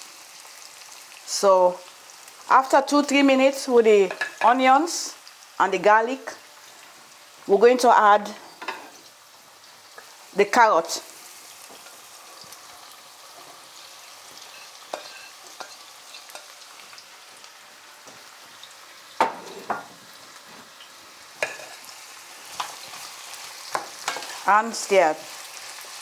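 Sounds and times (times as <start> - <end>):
vegetables sizzling in a frying pan: 0.0 - 26.0.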